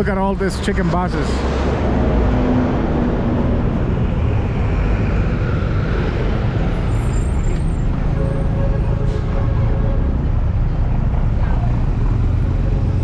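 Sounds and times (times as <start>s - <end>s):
bus engines rumbling: 0.0s - 13.0s.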